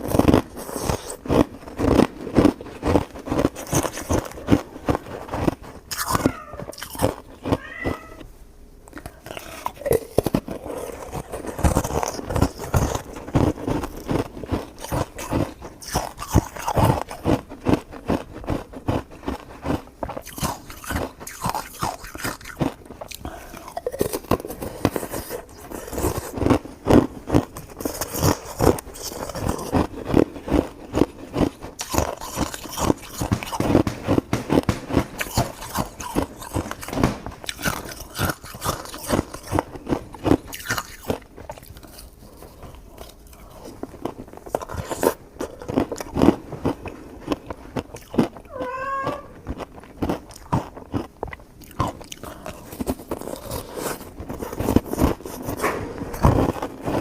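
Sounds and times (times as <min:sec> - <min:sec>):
crunchy food being chewed: 0:00.0 - 0:57.0.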